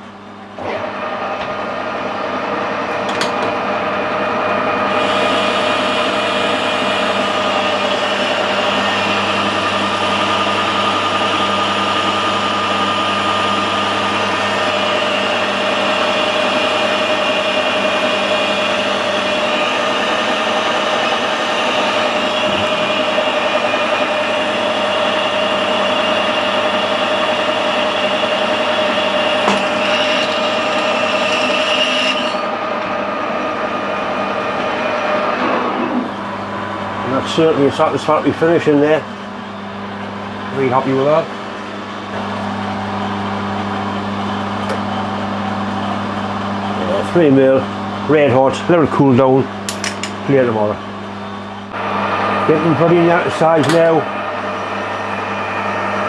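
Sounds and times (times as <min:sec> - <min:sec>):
metal lathe humming: 0:00.6 - 0:56.0.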